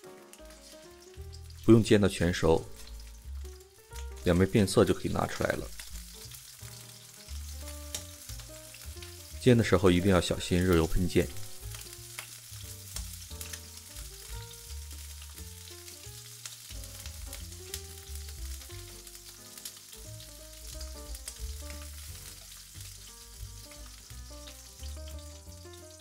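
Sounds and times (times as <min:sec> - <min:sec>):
shrimp sizzling in oil: 0:00.0 - 0:26.0
soft background music: 0:00.0 - 0:26.0.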